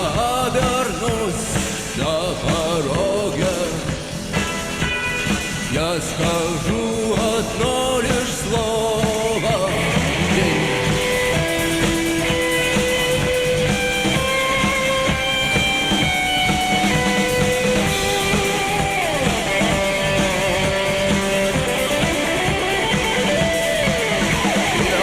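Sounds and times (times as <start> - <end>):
bass guitar: 0.0 - 25.0
drum kit: 0.0 - 25.0
electric guitar melody with slides: 0.0 - 25.0.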